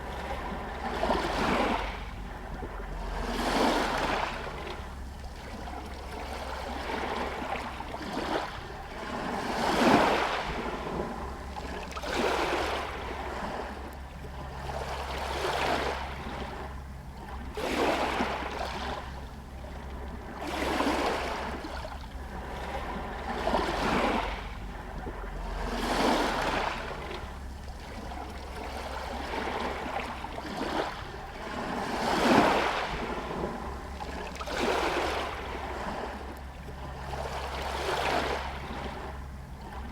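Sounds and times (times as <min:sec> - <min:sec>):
small waves lapping against shore: 0:00.0 - 0:39.9.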